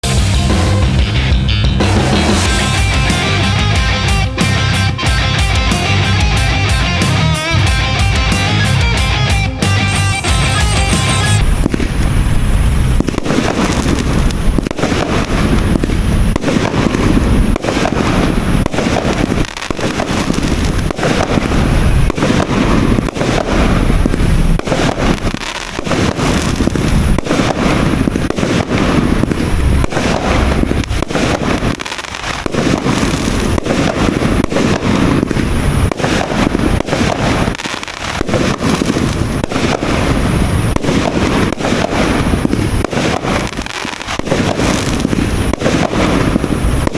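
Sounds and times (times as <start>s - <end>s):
fireworks launch thumps and bursts: 1.9s - 46.9s.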